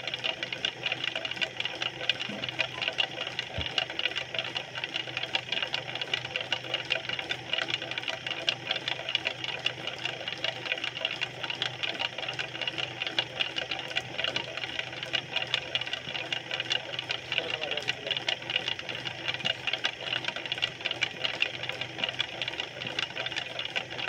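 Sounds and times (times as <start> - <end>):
potter's wheel motor humming: 0.0 - 24.0.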